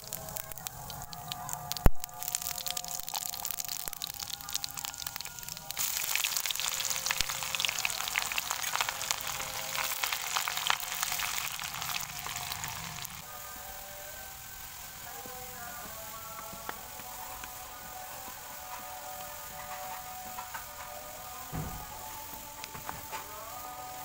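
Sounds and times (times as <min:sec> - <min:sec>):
onions sizzling in hot oil: 0:00.0 - 0:24.0.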